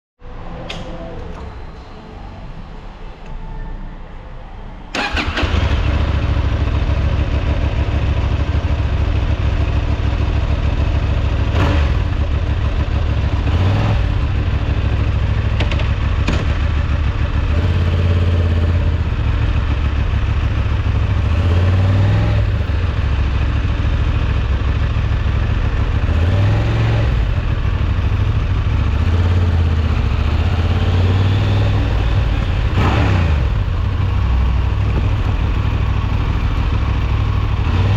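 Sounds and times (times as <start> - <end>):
motorcycle engine revving: 4.9 - 37.9.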